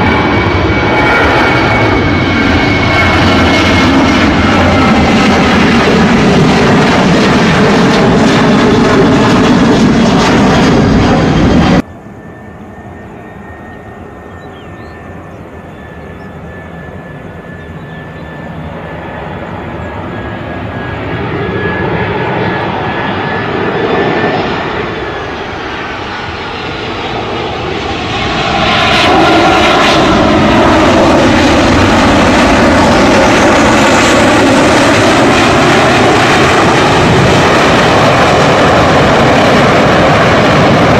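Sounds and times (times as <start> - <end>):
high steady jet whine: 0.0 - 40.9
jet engines at takeoff power: 0.0 - 40.9.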